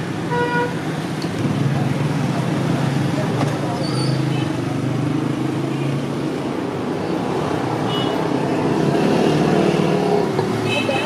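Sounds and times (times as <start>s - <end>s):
traffic passing on street: 0.0s - 11.0s.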